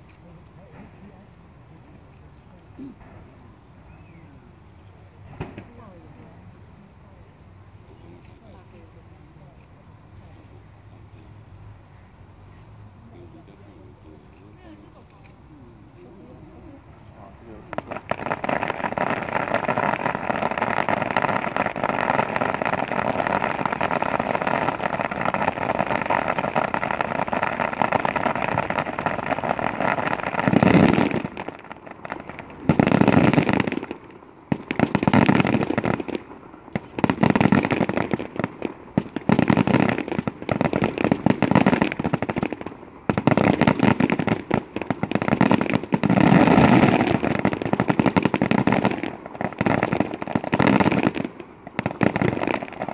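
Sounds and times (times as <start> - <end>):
fireworks crackling and popping: 0.0 - 52.9
loud firework bursts: 0.0 - 52.9.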